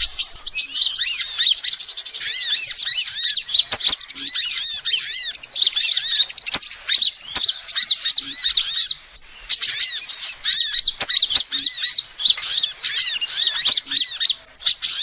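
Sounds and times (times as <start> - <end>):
bird chirping and twittering: 0.0 - 15.0.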